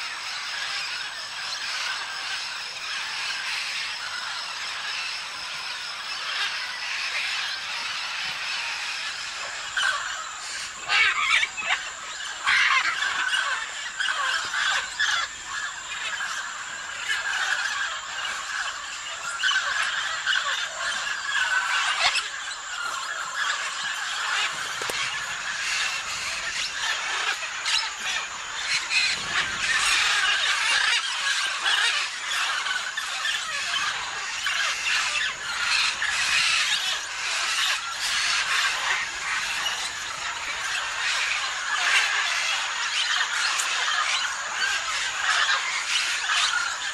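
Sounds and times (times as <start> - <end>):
macaws squawking: 0.0 - 46.9.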